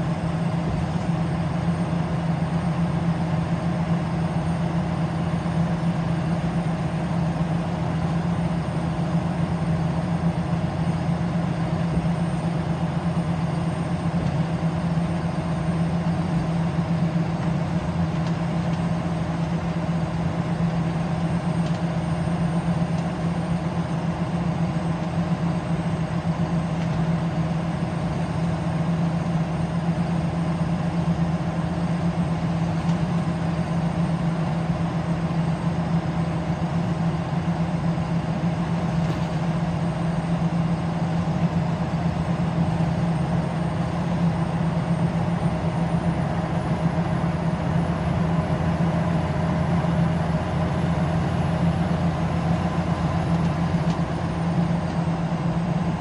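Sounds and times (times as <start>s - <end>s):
bus diesel engine drone: 0.0s - 56.0s.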